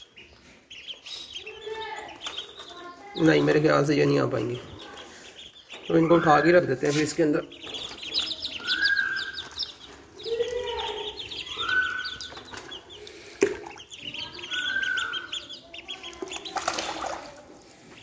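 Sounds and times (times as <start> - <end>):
chicks and ducklings peeping: 0.0 - 18.0.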